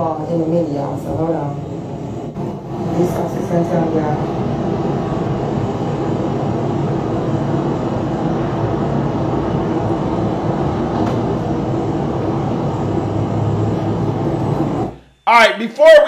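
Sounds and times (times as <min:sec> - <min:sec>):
loud rumbling noise: 0:00.0 - 0:15.0.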